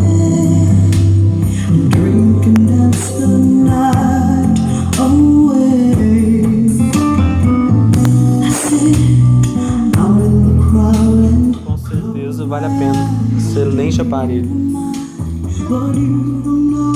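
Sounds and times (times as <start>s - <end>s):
song with singing guitar and bass: 0.0s - 16.9s.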